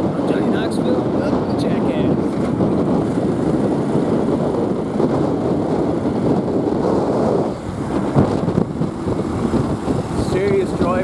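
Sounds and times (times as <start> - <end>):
motorbike riding road noise: 0.0 - 11.0.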